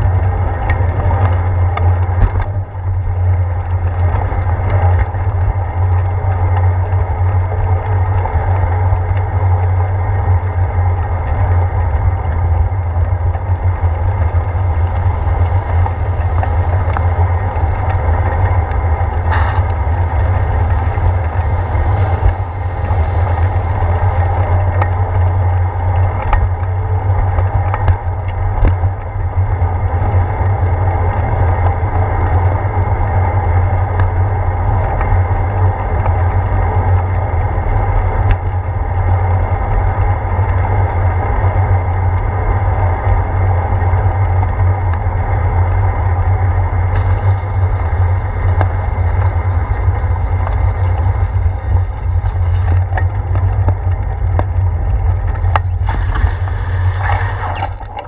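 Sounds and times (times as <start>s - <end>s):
bicycle rolling on wet pavement: 0.0s - 58.0s
low wind rumble: 0.0s - 58.0s.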